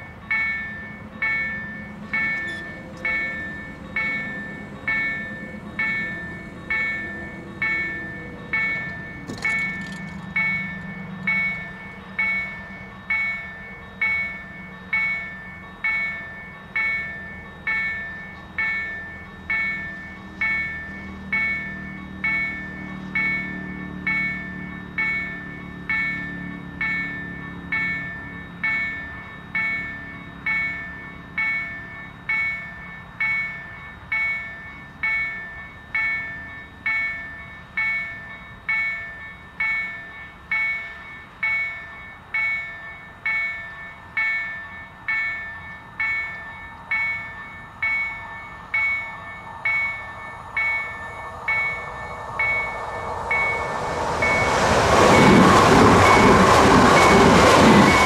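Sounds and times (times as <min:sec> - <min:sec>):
electric train passing rumble: 0:00.0 - 0:58.0
level crossing warning bell: 0:00.0 - 0:58.0.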